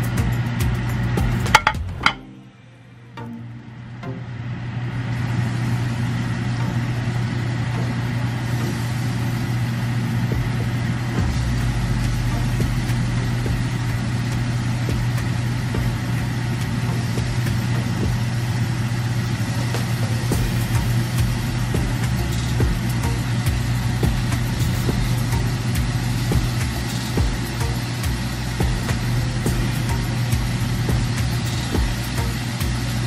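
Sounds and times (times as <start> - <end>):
range hood fan running: 0.0 - 33.0.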